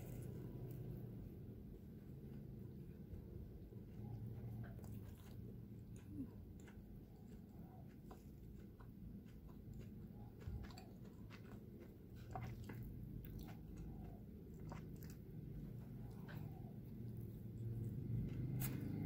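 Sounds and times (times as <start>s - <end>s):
low steady hum: 0.0s - 19.0s
person chewing: 3.7s - 19.0s.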